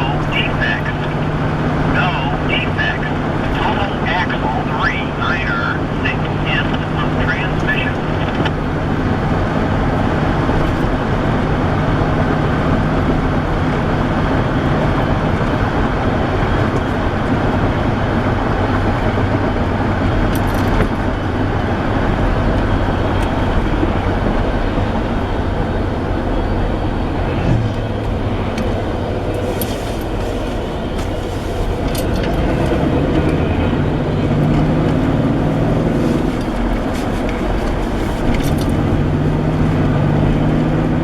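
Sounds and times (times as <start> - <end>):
car road rumble: 0.0 - 41.0
low engine drone: 0.0 - 41.0.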